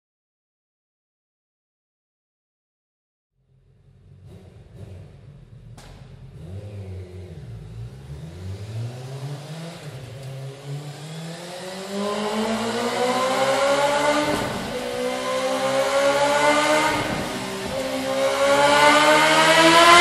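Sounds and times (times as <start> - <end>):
motorcycle engine revving: 3.4 - 20.0.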